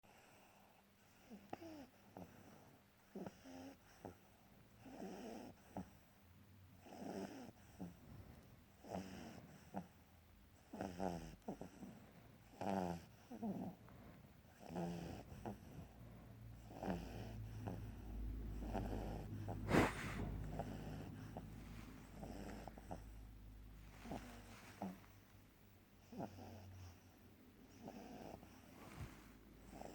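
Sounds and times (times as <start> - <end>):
dog snoring: 0.1 - 6.1, 6.8 - 25.2, 26.0 - 29.9.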